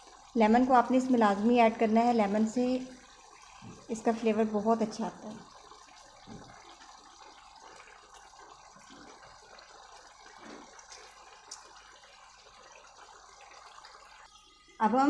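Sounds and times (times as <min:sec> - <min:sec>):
juice dripping into a pan: 0:00.0 - 0:14.8.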